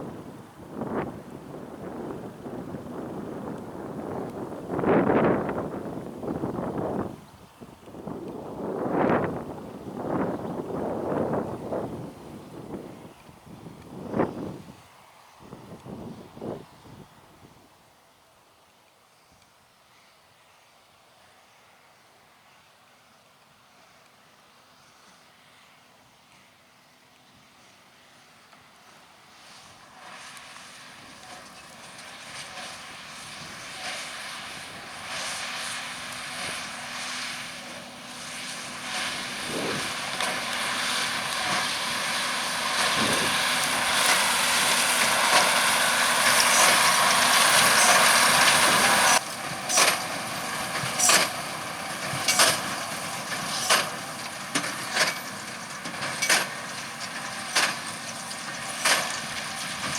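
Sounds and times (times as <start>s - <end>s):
tractor and baler running: 0.0s - 17.7s, 21.3s - 59.9s.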